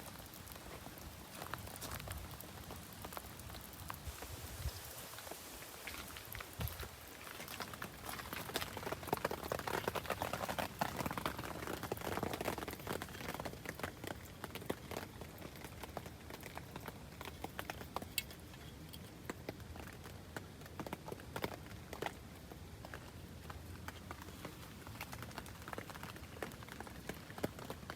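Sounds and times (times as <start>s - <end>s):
rain pattering on tent fabric: 0.0s - 27.9s.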